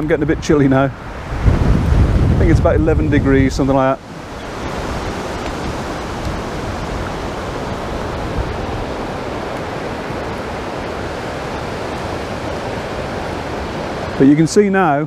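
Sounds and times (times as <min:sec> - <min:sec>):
strong wind rushing: 0:00.0 - 0:14.9
wind buffeting microphone: 0:00.0 - 0:14.9.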